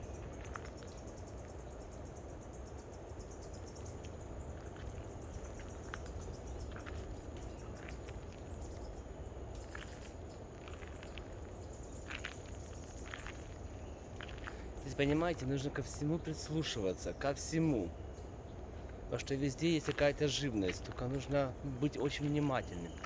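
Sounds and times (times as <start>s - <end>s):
rapid insect ticking: 0.0s - 23.0s
birds chirping: 3.2s - 23.0s.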